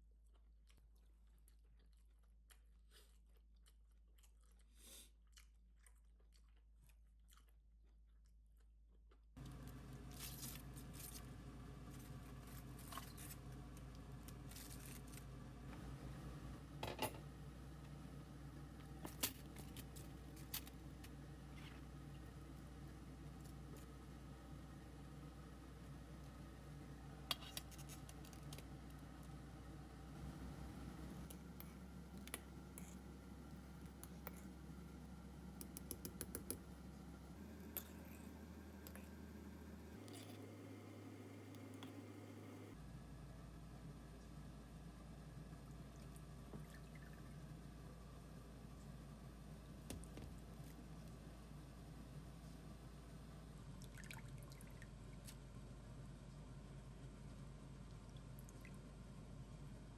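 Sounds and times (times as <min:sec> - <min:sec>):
steady low hum: 0:09.4 - 0:59.9.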